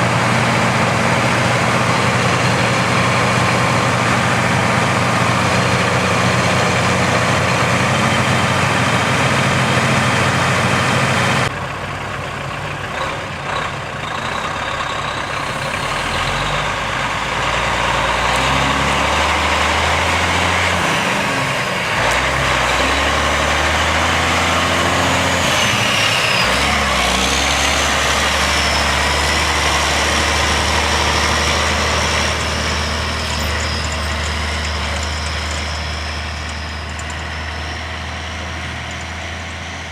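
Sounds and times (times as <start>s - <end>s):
diesel engines running: 0.0s - 39.9s.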